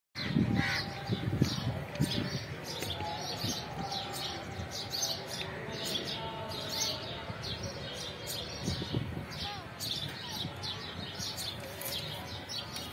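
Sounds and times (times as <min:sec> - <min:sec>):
small birds chirping: 0:00.2 - 0:12.9.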